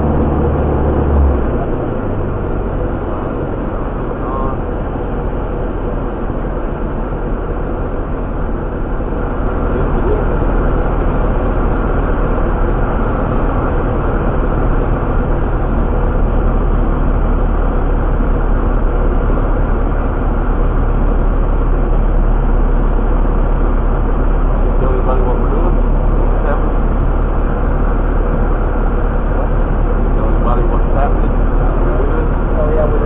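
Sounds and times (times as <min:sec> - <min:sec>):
light aircraft cabin drone: 0:00.0 - 0:33.0.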